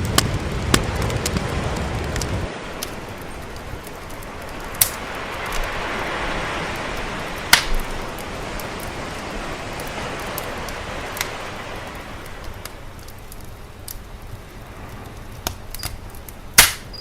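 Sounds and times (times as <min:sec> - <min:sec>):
sea waves: 0:00.0 - 0:17.0
sharp fire pops: 0:00.0 - 0:17.0
wood fire crackling: 0:00.0 - 0:17.0.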